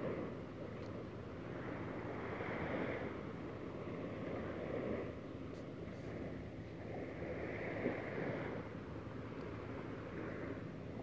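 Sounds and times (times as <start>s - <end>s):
small waves breaking on sand: 0.0s - 11.0s.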